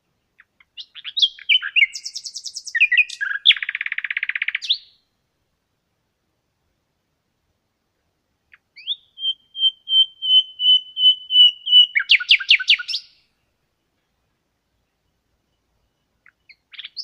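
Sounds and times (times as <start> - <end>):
songbird singing: 0.0 - 5.4, 7.7 - 17.0.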